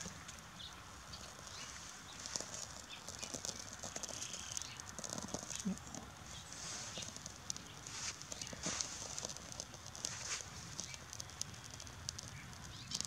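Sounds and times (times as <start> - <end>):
tinder and sticks crackling: 0.0 - 13.0.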